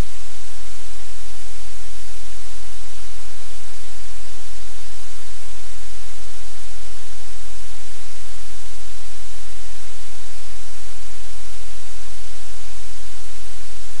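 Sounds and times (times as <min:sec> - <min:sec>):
loud static hiss: 0:00.0 - 0:14.0.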